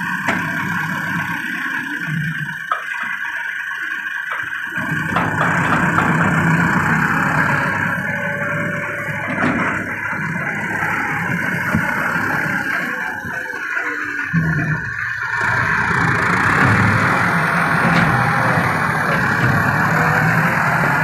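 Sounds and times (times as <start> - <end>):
tractor diesel engine running hard: 0.0 - 21.0.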